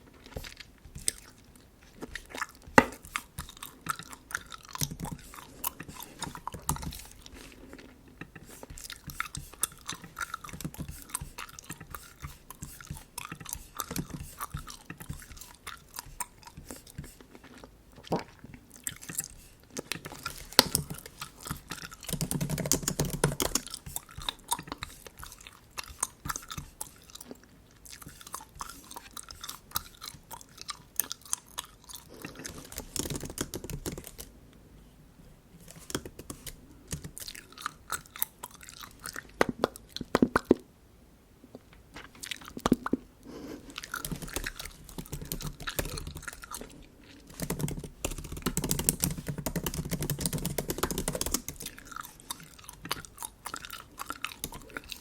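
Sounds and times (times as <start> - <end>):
gum chewing mouth smacks: 0.1 - 34.4, 35.8 - 40.7, 41.5 - 47.8, 49.9 - 55.0.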